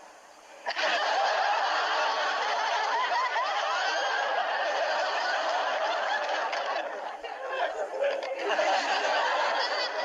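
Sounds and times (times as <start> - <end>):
studio audience laughing: 0.6 - 10.0.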